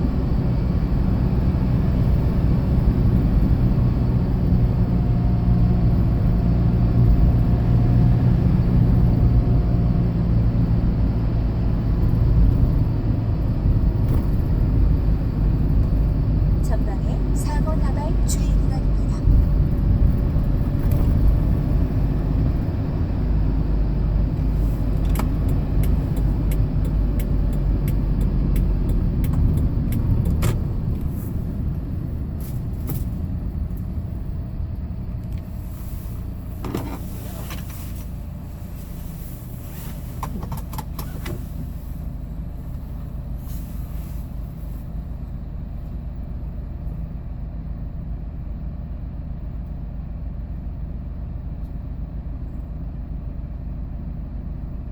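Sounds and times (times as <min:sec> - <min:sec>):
truck engine and road noise: 0:00.0 - 0:54.9.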